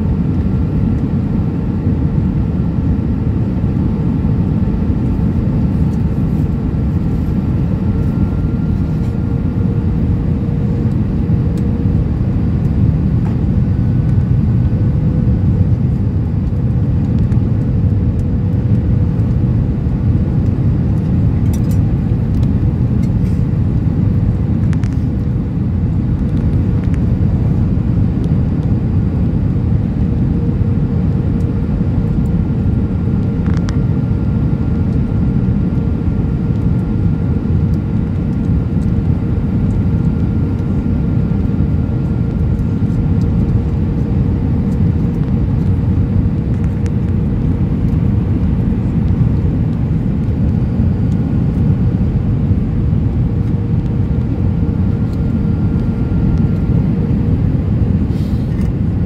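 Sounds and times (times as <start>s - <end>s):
airplane cabin rumble: 0.0s - 59.0s
faint steady hum: 0.0s - 59.0s.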